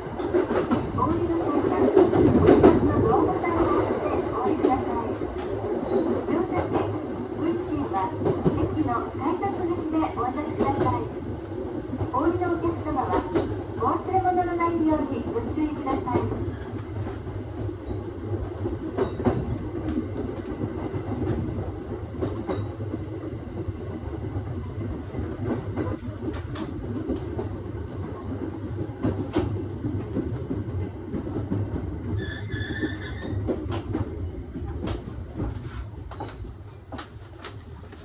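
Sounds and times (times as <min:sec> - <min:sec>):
electric train rumbling: 0:00.0 - 0:38.0.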